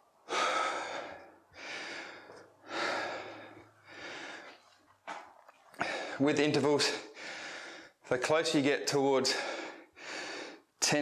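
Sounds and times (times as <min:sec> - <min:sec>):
man breathing heavily: 0:00.0 - 0:04.8, 0:05.5 - 0:08.1, 0:09.2 - 0:10.8.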